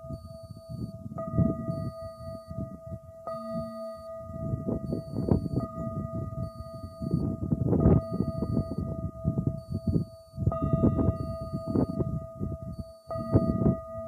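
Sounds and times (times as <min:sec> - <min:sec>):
metal singing bowl ringing: 0:00.0 - 0:14.0
wind rumbling on microphone: 0:00.0 - 0:14.0.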